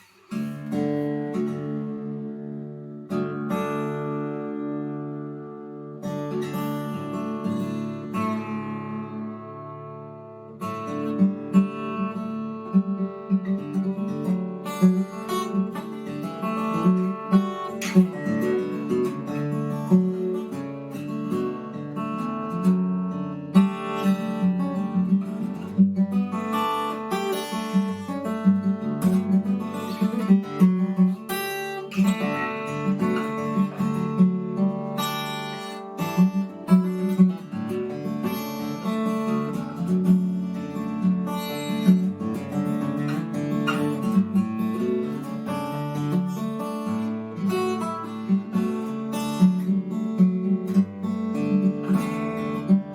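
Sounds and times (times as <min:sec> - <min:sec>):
steel-string acoustic guitar: 0:00.0 - 0:52.9.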